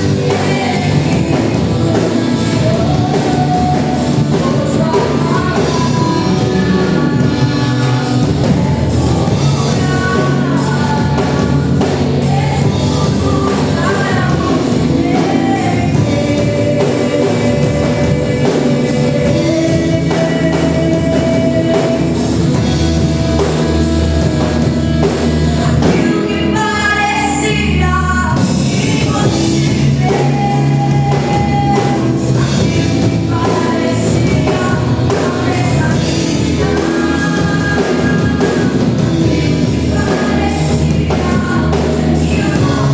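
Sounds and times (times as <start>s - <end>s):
people singing: 0.0s - 42.9s
worship band playing gospel song: 0.0s - 42.9s.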